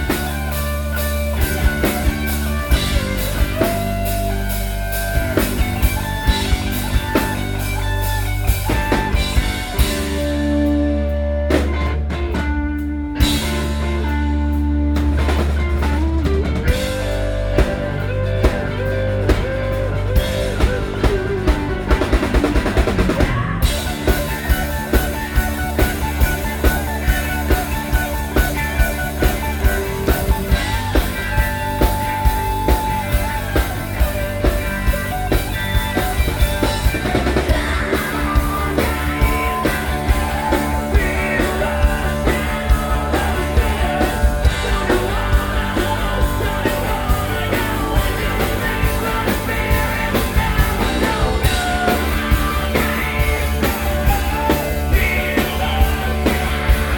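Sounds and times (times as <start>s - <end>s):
electric guitar with sliding notes: 0.0s - 56.9s
steady drum beat: 0.0s - 56.9s.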